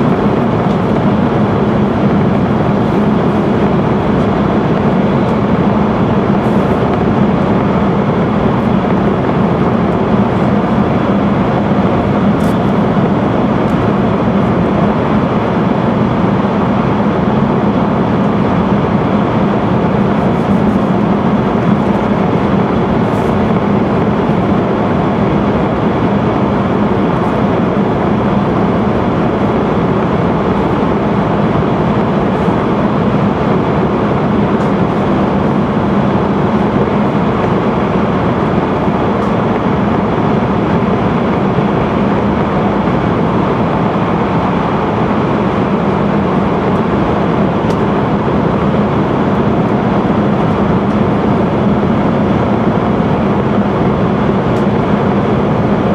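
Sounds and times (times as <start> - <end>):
train cabin running noise: 0.0 - 55.9.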